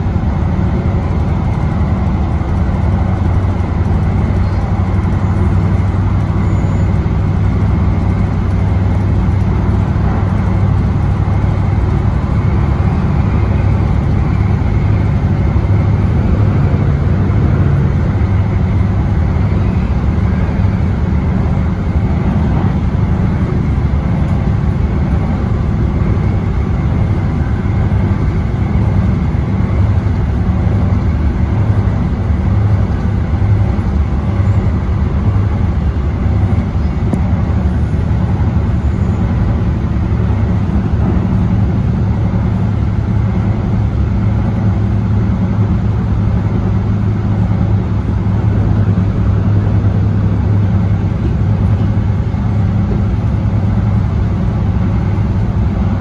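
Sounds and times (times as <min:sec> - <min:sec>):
light rail train rumbling: 0:00.0 - 0:56.0.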